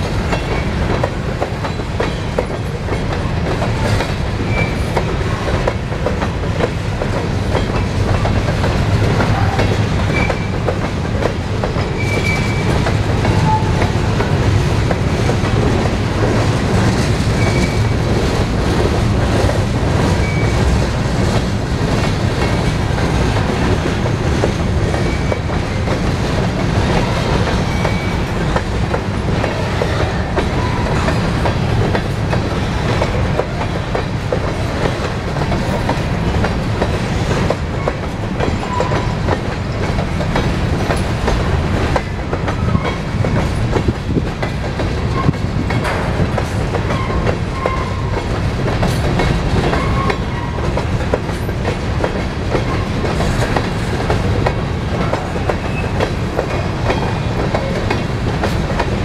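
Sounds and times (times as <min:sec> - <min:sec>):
freight train rolling past: 0:00.0 - 0:59.0
wheels clacking on rail: 0:00.0 - 0:59.0.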